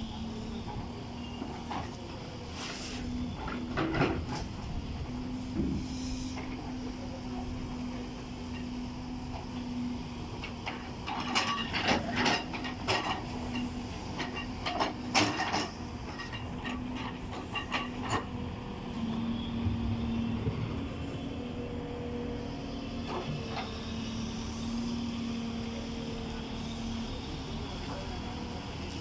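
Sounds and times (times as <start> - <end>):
excavator diesel engine humming: 0.0 - 29.0.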